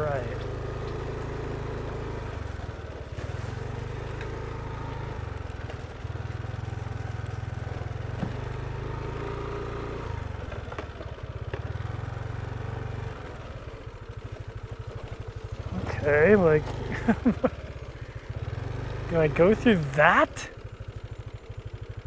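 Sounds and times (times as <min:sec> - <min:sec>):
moped engine revving: 0:00.0 - 0:22.0.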